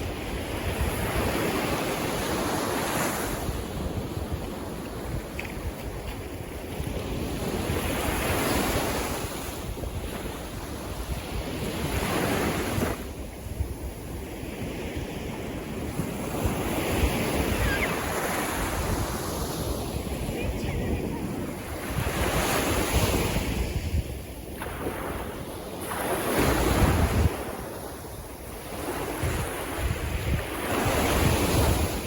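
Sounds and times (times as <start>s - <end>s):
sea waves washing in: 0.0s - 32.0s
wind buffeting microphone: 0.0s - 32.0s.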